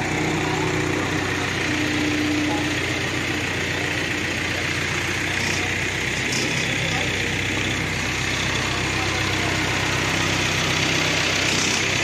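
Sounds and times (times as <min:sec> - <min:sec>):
crane engine running: 0:00.0 - 0:12.0.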